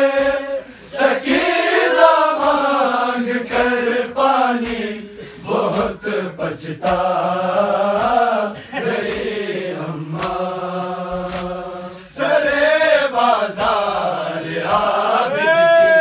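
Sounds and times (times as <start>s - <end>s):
hands slapping chests: 0.0s - 16.0s
men chanting a lament: 0.0s - 16.0s.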